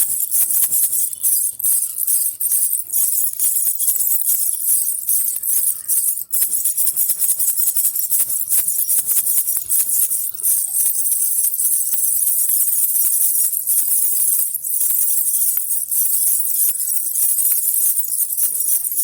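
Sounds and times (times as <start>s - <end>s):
baby rattle jingling: 0.0s - 19.0s.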